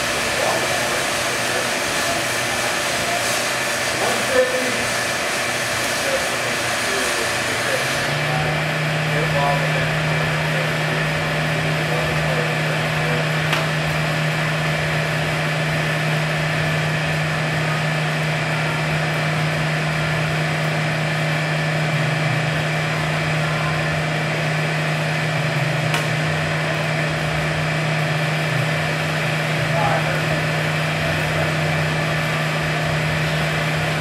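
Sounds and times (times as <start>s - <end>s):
hydraulic machine drone: 0.0s - 34.0s.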